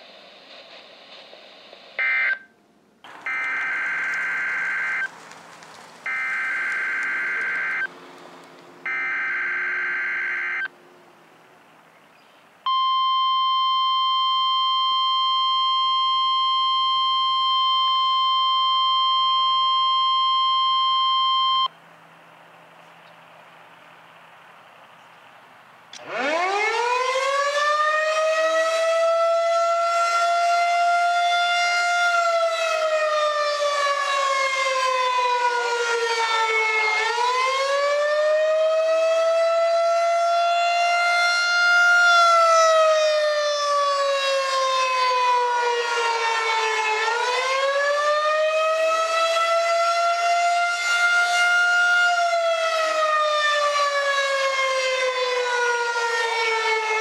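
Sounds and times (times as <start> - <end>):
warning siren wailing: 2.0 - 2.5, 3.1 - 5.2, 6.0 - 8.0, 8.8 - 10.7, 12.7 - 21.8, 26.0 - 57.0.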